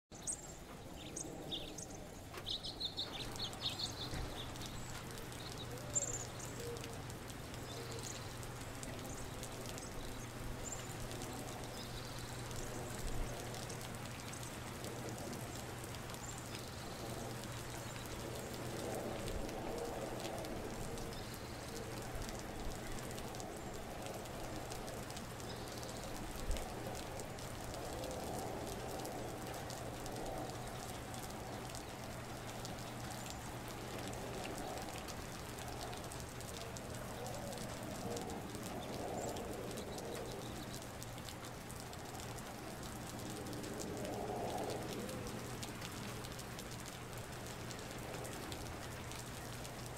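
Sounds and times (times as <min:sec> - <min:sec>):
rain pattering on pavement: 0:00.1 - 0:49.9.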